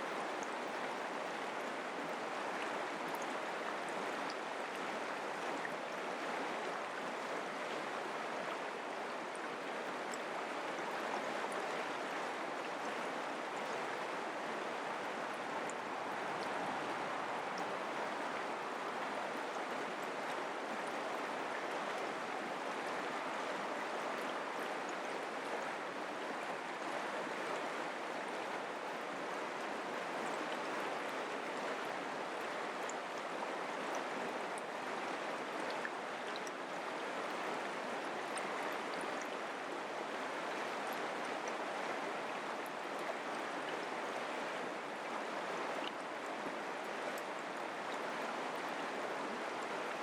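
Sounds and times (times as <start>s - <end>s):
creek flowing over rocks: 0.0s - 50.0s.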